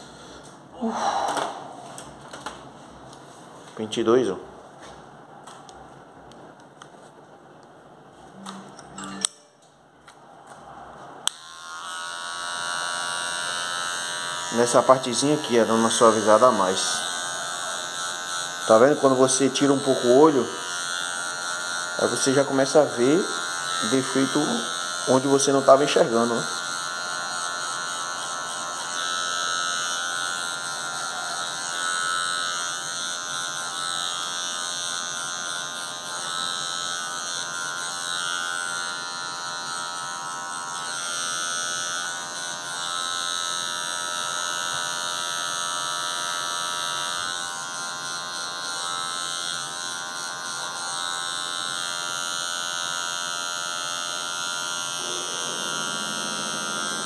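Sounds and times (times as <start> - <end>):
electric hair clipper buzzing: 8.5 - 9.3, 11.2 - 57.0.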